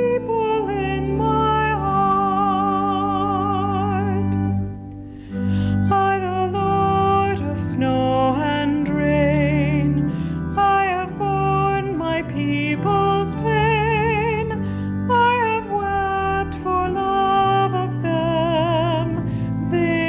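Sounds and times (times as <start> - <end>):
instrumental accompaniment: 0.0 - 20.0
solo voice singing hymn: 0.0 - 20.0.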